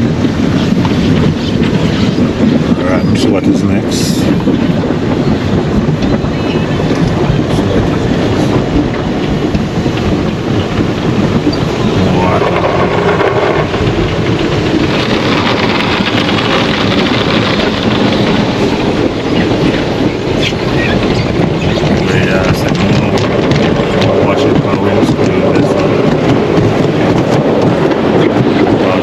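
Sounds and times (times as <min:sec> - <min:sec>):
water spraying on car: 0:00.0 - 0:29.0.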